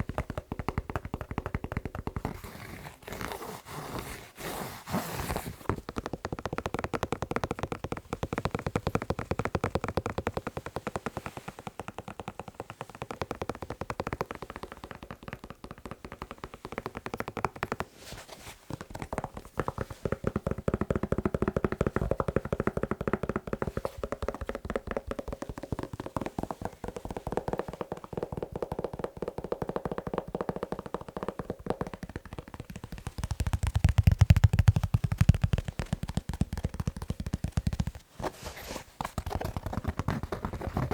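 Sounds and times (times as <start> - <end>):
fast tapping on a shoe: 0.0 - 40.9.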